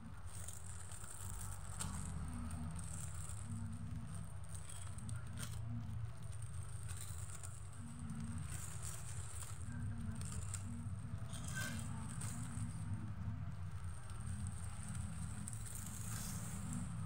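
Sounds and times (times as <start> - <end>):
foil balloons rustling and crinkling: 0.0 - 17.0.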